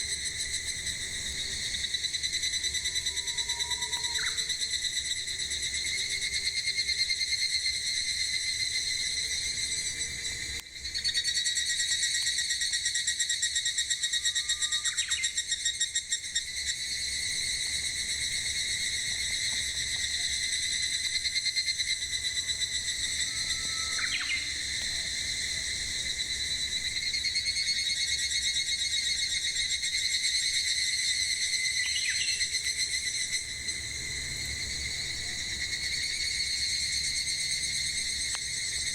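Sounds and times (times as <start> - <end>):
cicadas singing: 0.0 - 38.9.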